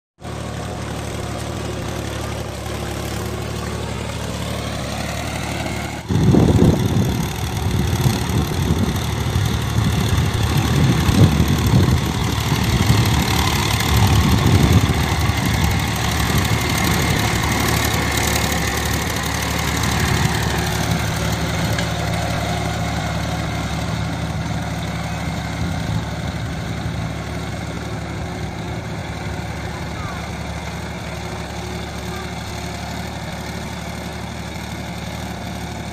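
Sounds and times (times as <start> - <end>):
tractor diesel engine under load: 0.2 - 35.9.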